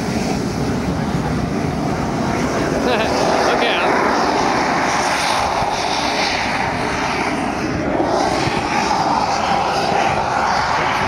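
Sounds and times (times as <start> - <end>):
jet engine running: 0.0 - 11.0.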